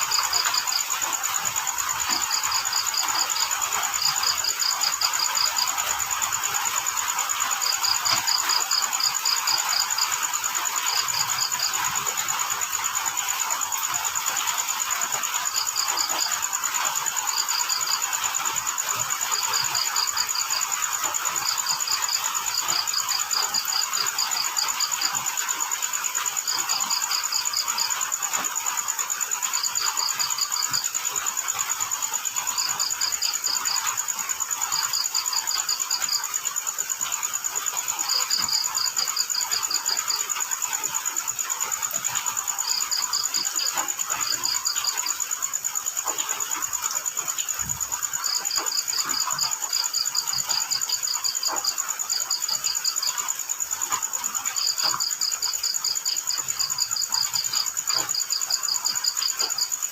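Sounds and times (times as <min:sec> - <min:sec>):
crickets chirping: 0:00.0 - 0:59.9
high-pitched insect trill: 0:00.0 - 0:59.9.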